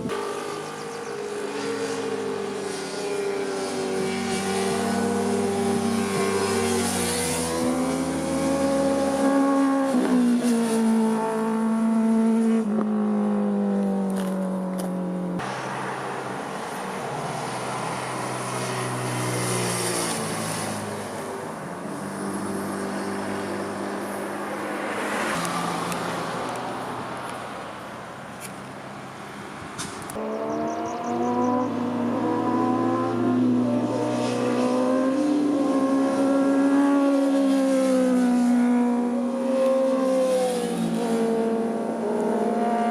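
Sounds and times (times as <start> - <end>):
motorcycles passing at speed: 0.0 - 42.9.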